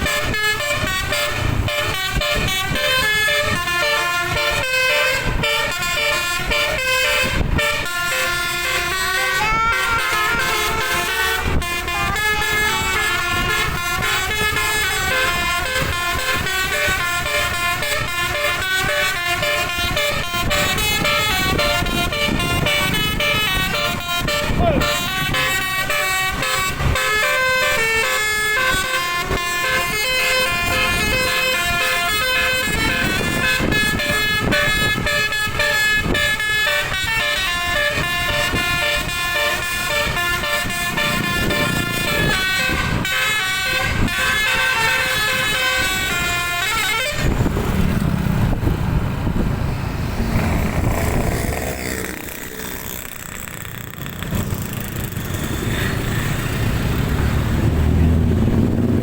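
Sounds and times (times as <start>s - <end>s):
bus horn playing a melody: 0.0s - 47.7s
engine and traffic rumble: 0.0s - 59.0s.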